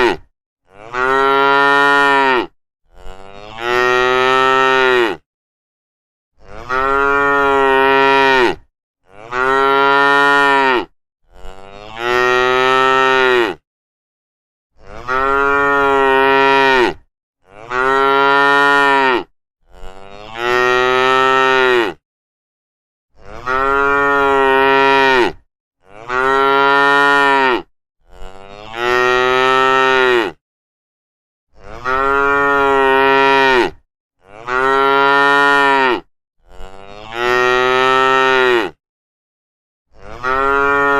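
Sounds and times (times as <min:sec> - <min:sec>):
cows mooing: 0:00.0 - 0:05.2, 0:06.4 - 0:13.6, 0:14.8 - 0:22.0, 0:23.3 - 0:30.4, 0:31.6 - 0:38.8, 0:40.0 - 0:40.9.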